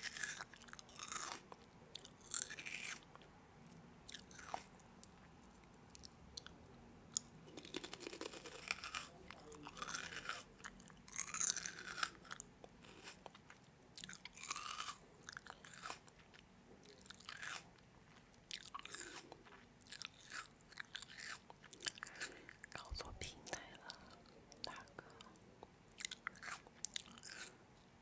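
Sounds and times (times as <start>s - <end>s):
person chewing crunchy food: 0.0s - 3.3s, 4.1s - 5.1s, 5.9s - 22.9s, 23.5s - 27.6s.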